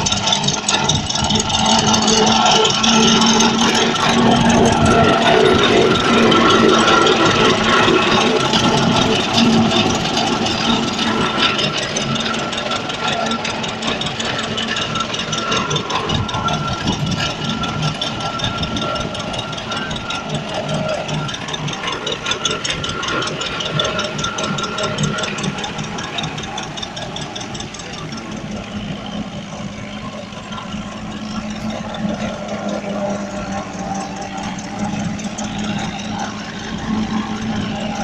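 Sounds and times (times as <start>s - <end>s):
fast even ticking: 0.0s - 38.0s
steady rattle: 0.0s - 38.0s
tractor engine running: 0.0s - 38.0s.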